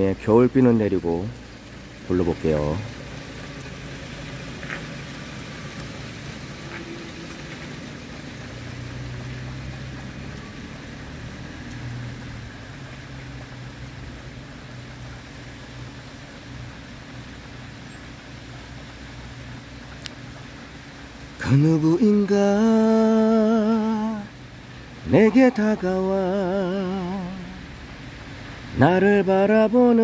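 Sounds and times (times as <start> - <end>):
low rumble of vehicle traffic: 0.0 - 30.0
rain on wet pavement: 0.0 - 30.0.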